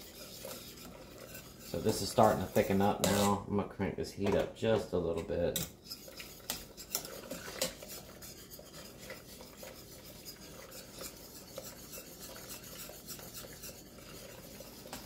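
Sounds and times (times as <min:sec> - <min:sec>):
whisk scraping metal saucepan: 0:00.0 - 0:03.4, 0:04.6 - 0:15.0.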